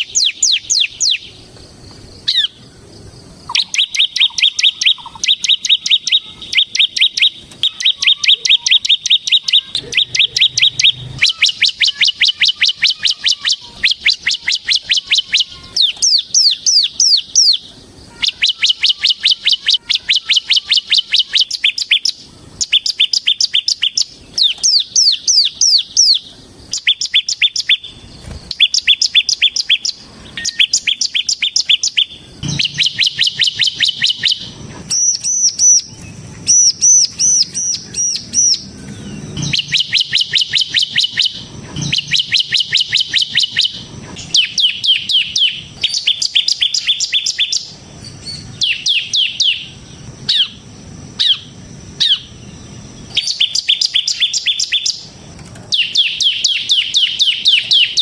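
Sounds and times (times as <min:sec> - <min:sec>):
bird trilling song: 0:00.0 - 0:58.0.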